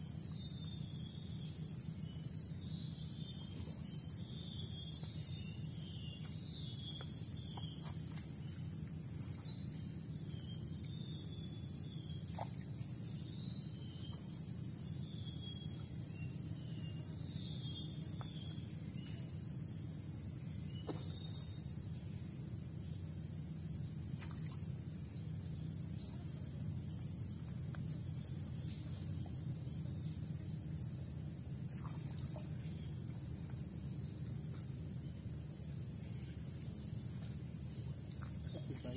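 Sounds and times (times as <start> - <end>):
high-pitched insect drone: 0.0 - 38.9.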